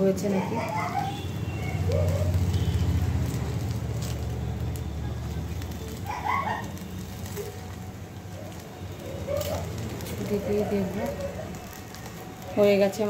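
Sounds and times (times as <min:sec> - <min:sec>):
foil crinkling and crackling: 0:00.2 - 0:13.0.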